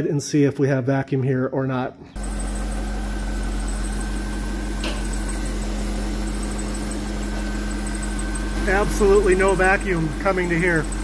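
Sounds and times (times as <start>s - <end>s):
car engine idling: 2.2s - 11.0s.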